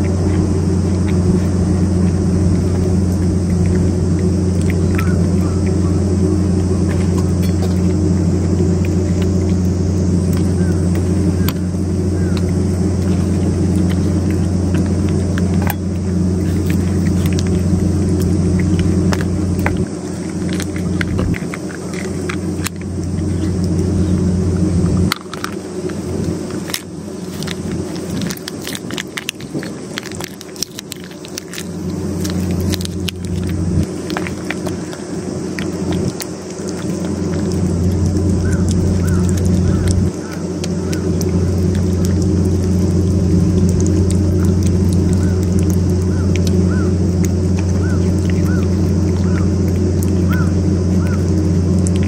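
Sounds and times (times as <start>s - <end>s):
cat chewing and lapping wet food: 0.0s - 52.0s
steady low hum: 0.0s - 52.0s.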